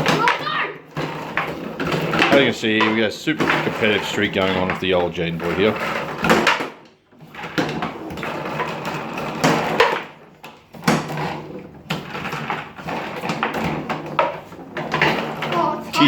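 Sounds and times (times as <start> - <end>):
foosball ball and players clacking: 0.0 - 16.0
rods sliding and banging: 0.0 - 16.0.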